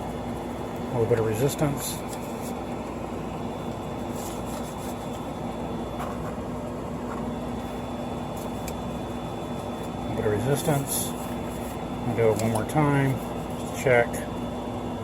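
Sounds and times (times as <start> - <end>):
fan hum with high whine: 0.0 - 15.0.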